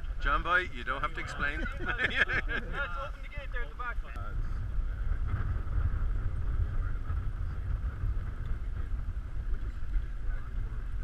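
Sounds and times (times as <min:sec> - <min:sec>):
vehicle rumbling: 0:00.0 - 0:11.0.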